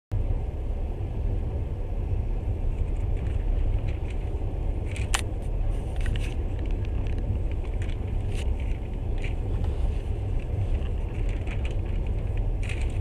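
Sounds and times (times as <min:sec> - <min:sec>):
train wheels rumbling on rails: 0:00.1 - 0:13.0.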